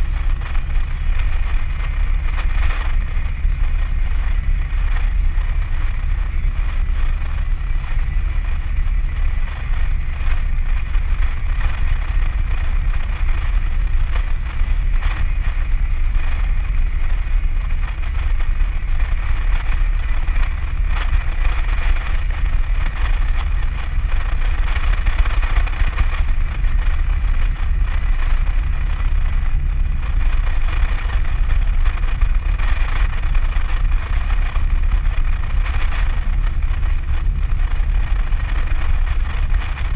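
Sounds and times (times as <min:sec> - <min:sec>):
vehicle cruising from inside cab: 0:00.0 - 0:39.9.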